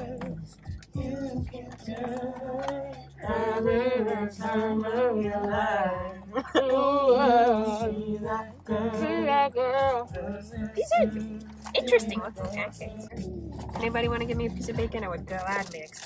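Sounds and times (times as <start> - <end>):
person singing: 0.0 - 14.0
low musical backing: 0.0 - 16.0.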